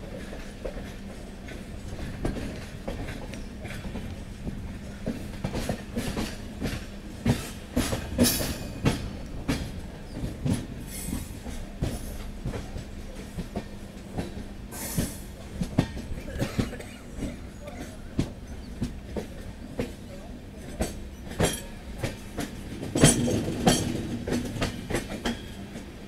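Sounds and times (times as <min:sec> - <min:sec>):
train wheels clacking over rail joints: 0:00.0 - 0:26.0.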